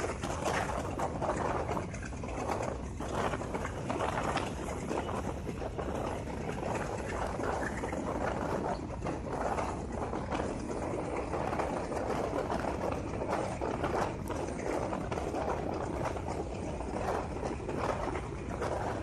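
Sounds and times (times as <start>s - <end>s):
train wheels clattering on track: 0.0s - 19.0s.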